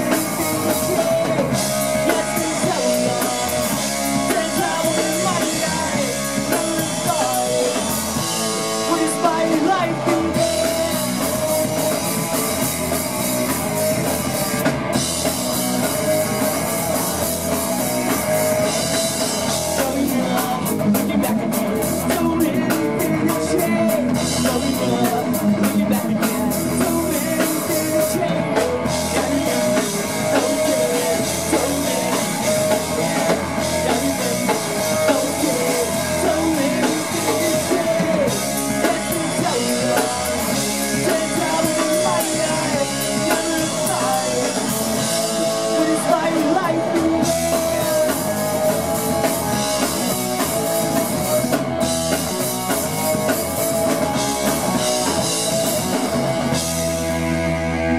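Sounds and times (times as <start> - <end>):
person singing: 0.0 - 12.6, 15.2 - 57.9
distorted electric guitar: 0.0 - 57.9
drum kit: 0.0 - 57.9
electric bass: 0.0 - 57.9.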